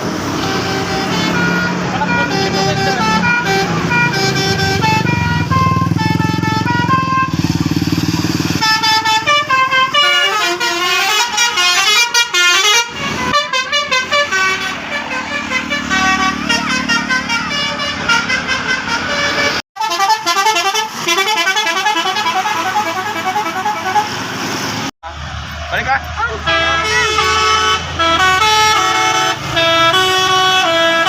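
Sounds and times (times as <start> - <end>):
bus musical horn playing tune: 0.0 - 7.7, 8.5 - 24.2, 26.4 - 31.0.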